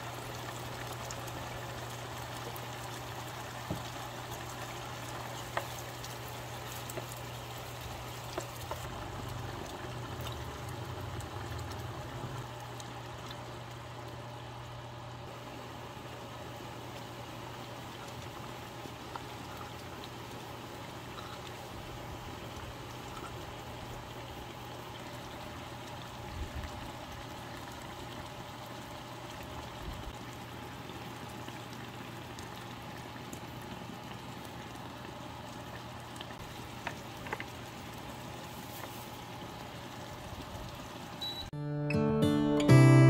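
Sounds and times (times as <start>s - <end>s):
sauce simmering and bubbling in a pan: 0.0s - 41.3s.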